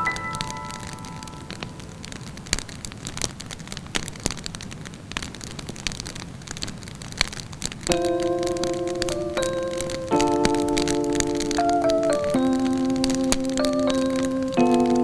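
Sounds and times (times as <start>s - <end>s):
wood fire crackling: 0.3s - 15.0s.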